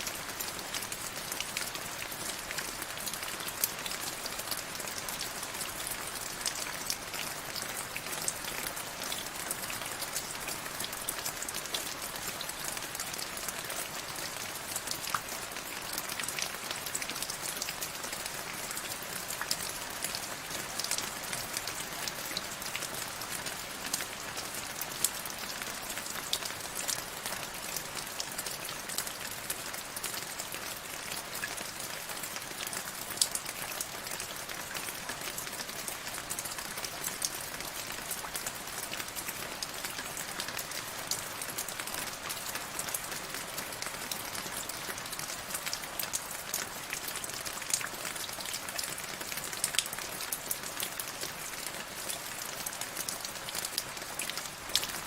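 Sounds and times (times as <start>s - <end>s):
raindrops ticking on a surface: 0.0s - 55.0s.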